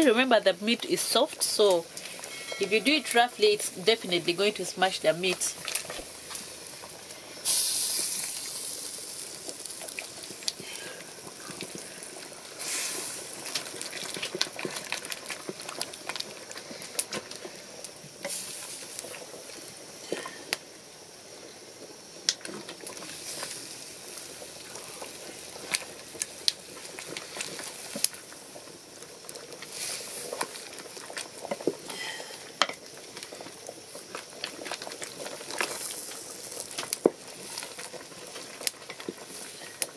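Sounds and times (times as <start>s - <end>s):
pot bubbling and hissing: 0.0s - 39.9s.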